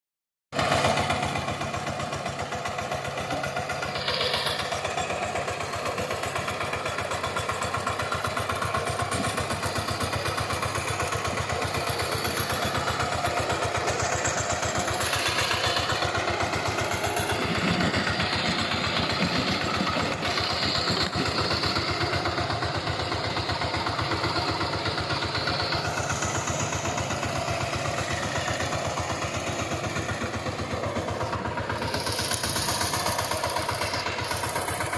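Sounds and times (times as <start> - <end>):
diesel engine running: 0.5 - 34.9.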